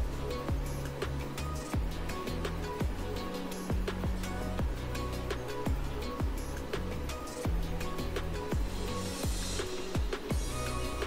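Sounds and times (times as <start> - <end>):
background music with kick drum: 0.0 - 11.0.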